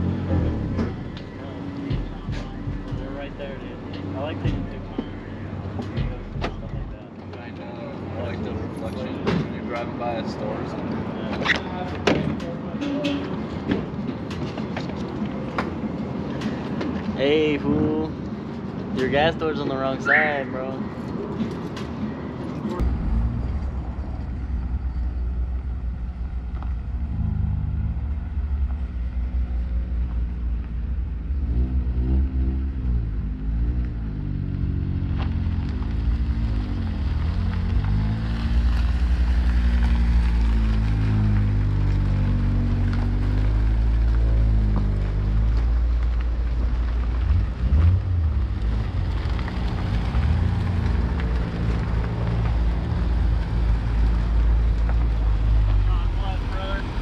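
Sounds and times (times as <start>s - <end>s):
cars driving slowly past: 0.0s - 57.0s.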